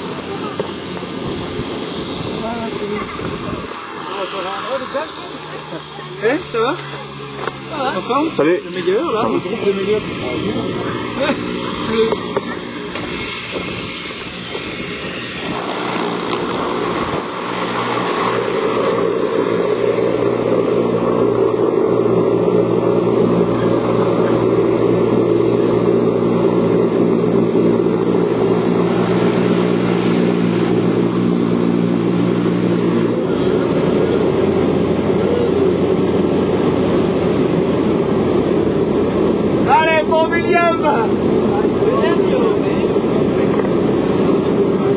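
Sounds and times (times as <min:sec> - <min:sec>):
propeller aircraft engine drone: 0:00.0 - 0:44.9.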